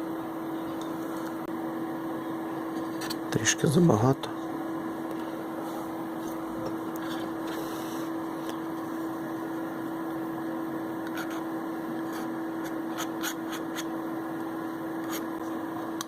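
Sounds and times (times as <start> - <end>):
extractor fan humming: 0.0 - 16.0.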